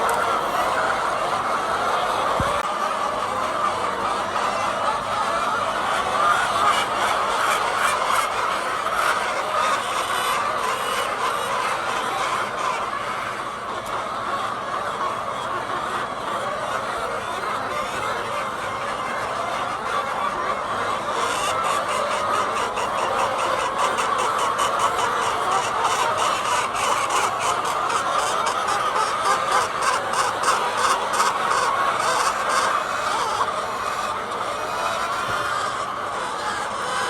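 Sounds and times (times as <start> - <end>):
hens clucking: 0.0 - 37.0.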